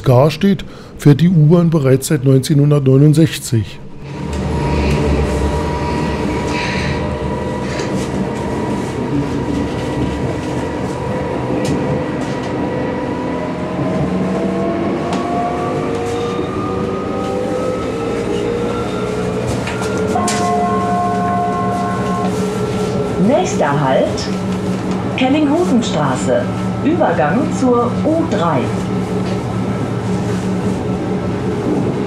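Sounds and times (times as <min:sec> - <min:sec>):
train rumbling on rails: 0:00.0 - 0:32.0
train motor whine rising: 0:03.9 - 0:12.6, 0:13.6 - 0:30.6.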